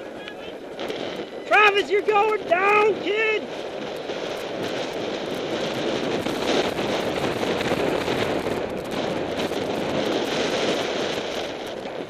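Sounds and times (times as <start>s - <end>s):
bike rattling over bumpy grass: 0.0s - 12.0s.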